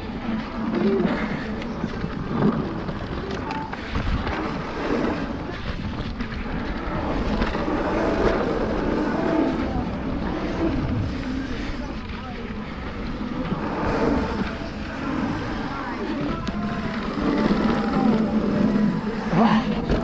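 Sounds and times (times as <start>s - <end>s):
tyres rolling over dirt and rocks: 0.0s - 20.0s
wind buffeting microphone: 0.0s - 20.0s.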